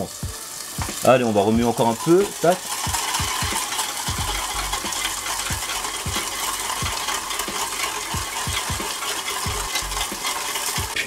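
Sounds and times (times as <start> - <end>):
sizzling hiss from pans: 0.0 - 11.0
whisk knocking against pan: 0.2 - 11.0.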